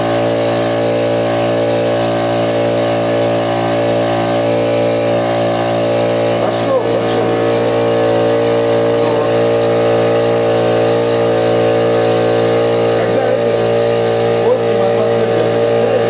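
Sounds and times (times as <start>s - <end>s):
air compressor droning: 0.0s - 16.0s.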